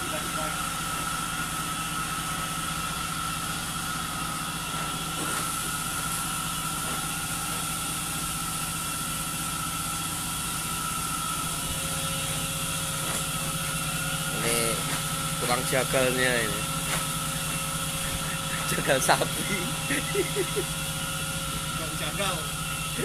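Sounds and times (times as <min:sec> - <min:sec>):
boat engine droning: 0:00.0 - 0:23.0
high machinery whine: 0:00.0 - 0:23.0.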